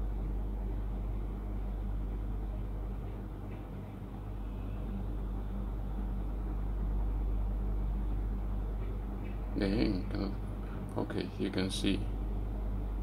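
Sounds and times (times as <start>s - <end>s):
low background hum and rumble: 0.0s - 13.0s.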